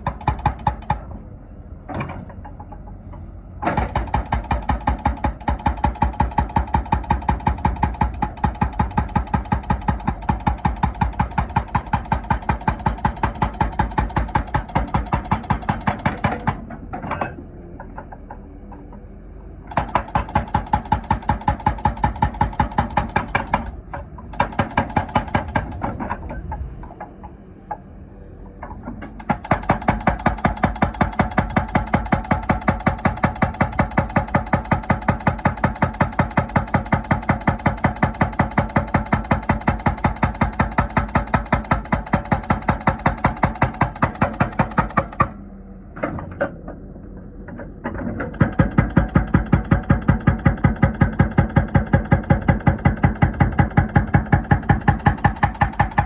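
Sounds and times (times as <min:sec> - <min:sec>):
hydraulic breaker hammering: 0:00.0 - 0:01.1, 0:03.6 - 0:19.0, 0:19.7 - 0:27.8, 0:28.6 - 0:45.4, 0:47.4 - 0:56.0
excavator engine running: 0:00.0 - 0:56.0.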